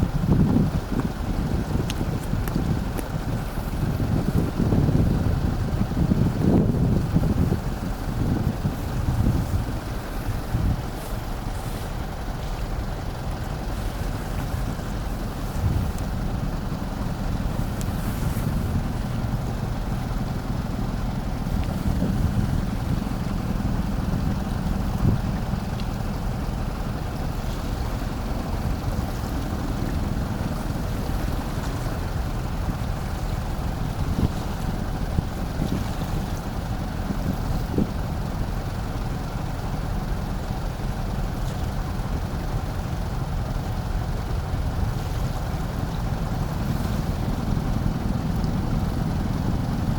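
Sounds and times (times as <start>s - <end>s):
wind on microphone: 0.0s - 41.0s
ship engines droning: 0.0s - 49.9s.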